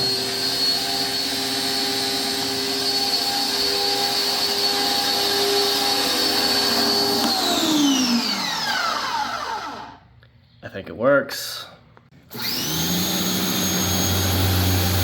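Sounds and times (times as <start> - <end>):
pressure washer motor whining: 0.0 - 10.0, 12.3 - 15.0.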